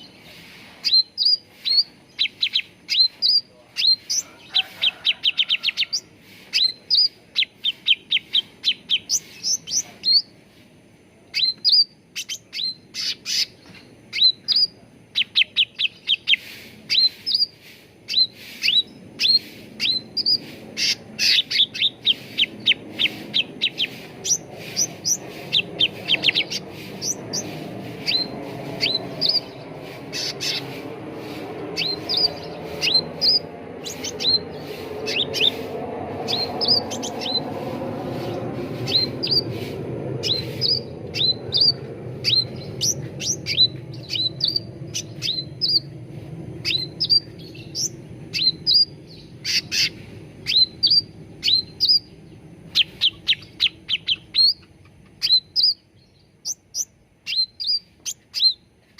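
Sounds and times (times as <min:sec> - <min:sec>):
bird chirping: 0:00.0 - 0:10.4, 0:11.3 - 0:58.9
low background hum: 0:00.0 - 0:58.9.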